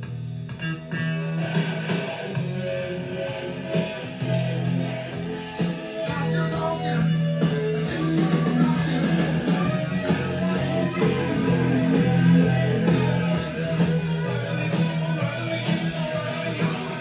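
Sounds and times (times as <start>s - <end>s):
guitar music through speakers: 0.0s - 17.0s.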